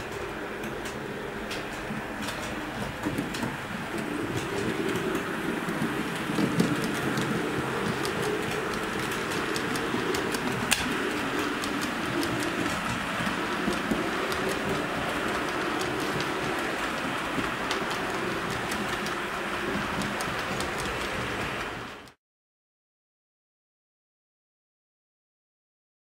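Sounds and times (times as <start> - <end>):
model train rumbling: 0.0 - 22.2
wheels clicking on rails: 0.0 - 22.2.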